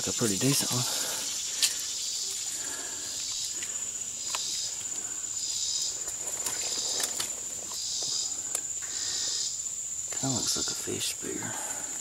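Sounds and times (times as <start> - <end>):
insects trilling: 0.0 - 12.0
lower insect buzzing call: 0.1 - 11.3.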